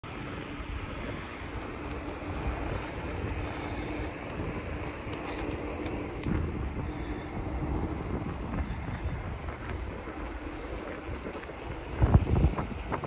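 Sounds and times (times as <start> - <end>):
bicycle tyres rumbling on asphalt: 0.0 - 13.0
faint broken hum: 0.0 - 13.0
wind on microphone: 0.4 - 13.0.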